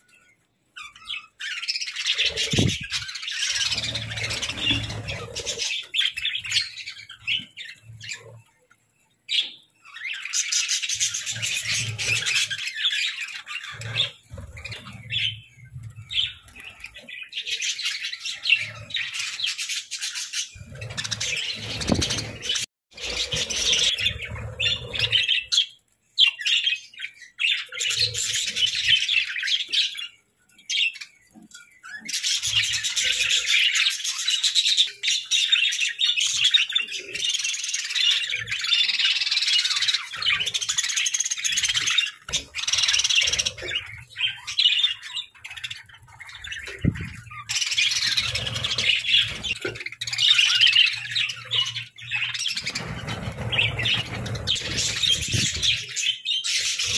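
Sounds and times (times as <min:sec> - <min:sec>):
budgerigars chattering and chirping: 0:00.8 - 0:08.4, 0:09.3 - 0:56.9.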